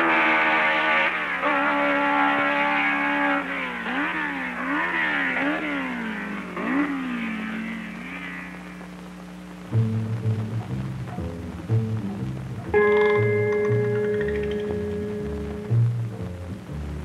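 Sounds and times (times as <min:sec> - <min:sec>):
racing car engine at high revs: 0:00.0 - 0:09.7, 0:12.0 - 0:17.0.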